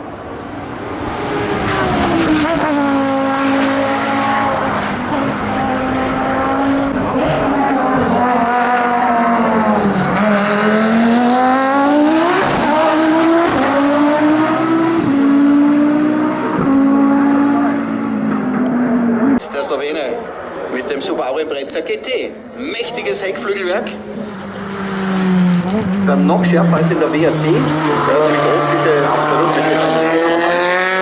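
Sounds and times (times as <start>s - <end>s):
race car engine at full throttle: 0.0s - 31.0s.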